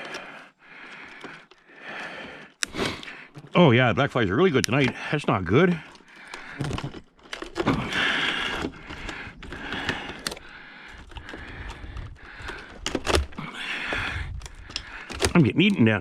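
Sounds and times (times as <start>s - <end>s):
hands rustling and scraping wires: 0.0s - 16.0s.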